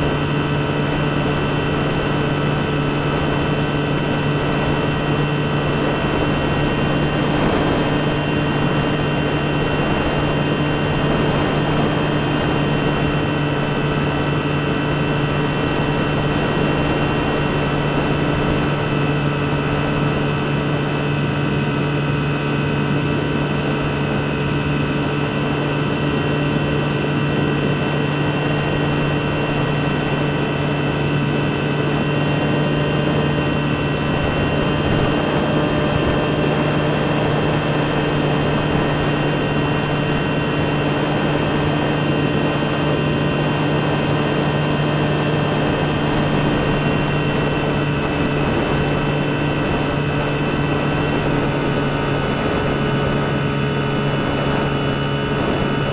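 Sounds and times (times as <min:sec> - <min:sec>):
electric motor and propeller drone: 0:00.0 - 0:55.9.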